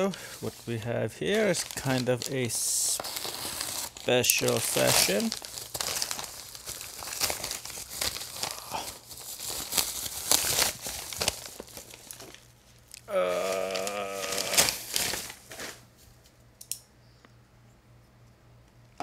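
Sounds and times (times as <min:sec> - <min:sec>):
packaging crinkling: 0:00.0 - 0:15.9.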